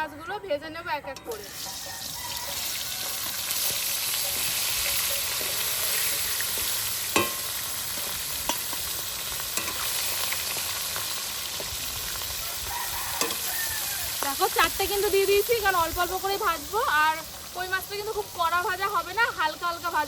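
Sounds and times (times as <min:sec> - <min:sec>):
fish sizzling in oil: 0:01.3 - 0:20.0.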